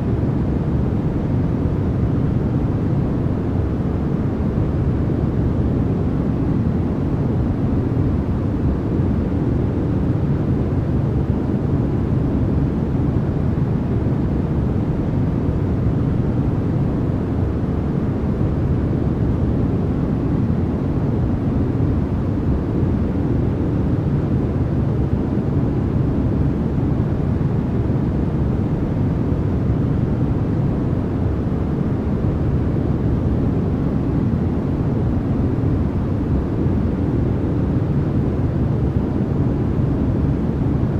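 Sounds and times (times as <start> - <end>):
deep low white noise rumble: 0.0 - 40.9.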